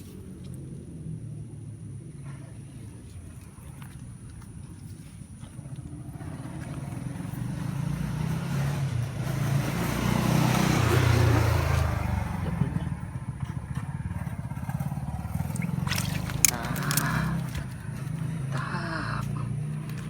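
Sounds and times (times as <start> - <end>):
passing vehicle engine: 0.0 - 20.0.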